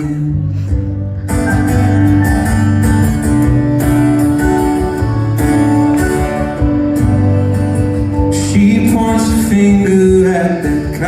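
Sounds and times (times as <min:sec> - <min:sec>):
strummed guitar: 0:00.0 - 0:11.0.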